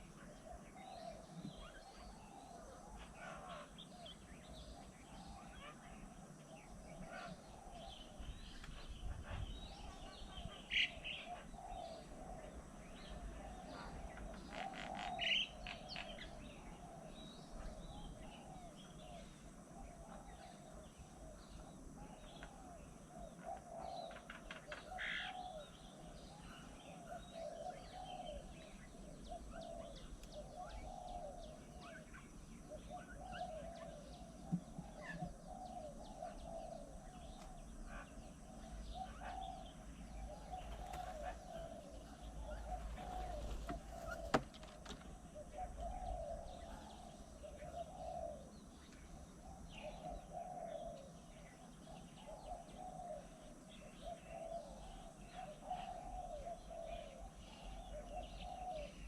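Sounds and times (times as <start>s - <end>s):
wild birds calling: 0.0s - 59.0s.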